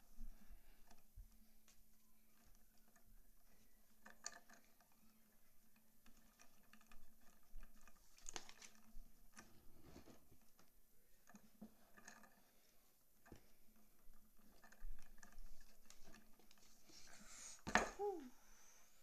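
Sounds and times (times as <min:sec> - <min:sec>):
cord rustling and clicking: 0:00.0 - 0:18.2.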